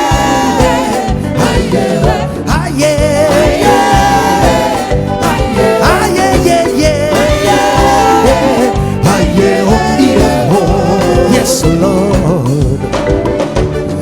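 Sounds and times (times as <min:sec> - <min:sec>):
live band playing gospel music: 0:00.0 - 0:14.0.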